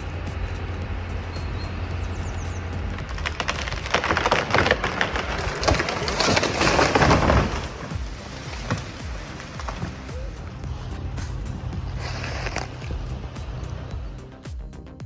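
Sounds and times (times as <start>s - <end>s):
wood cracking and splintering: 0.2s - 14.0s.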